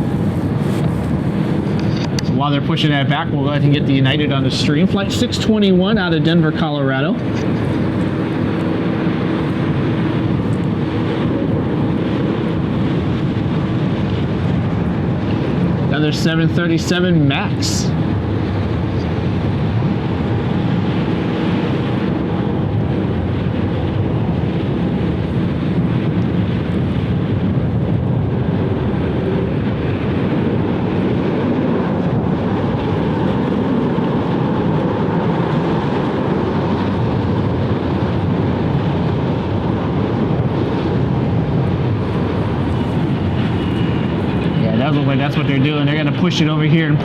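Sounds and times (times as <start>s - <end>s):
jet engine noise: 0.0s - 47.0s.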